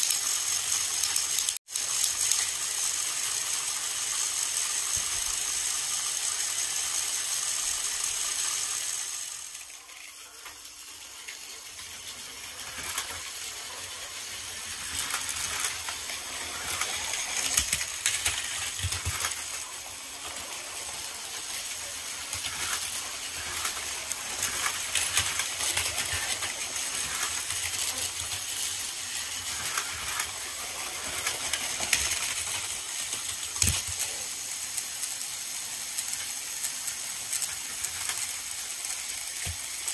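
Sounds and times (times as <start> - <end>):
toy train cars clattering: 0.0 - 39.9
toy train motors whirring: 0.0 - 39.9.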